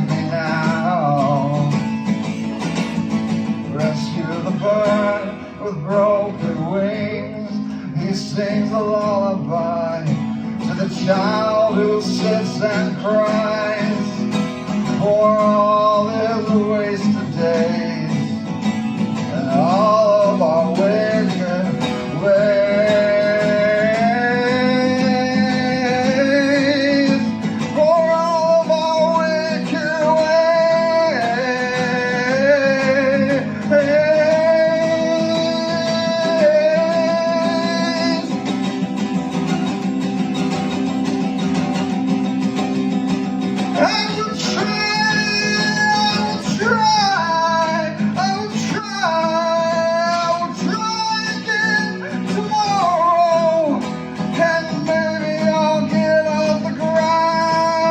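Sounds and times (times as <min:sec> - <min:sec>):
acoustic guitar: 0:00.0 - 0:57.9.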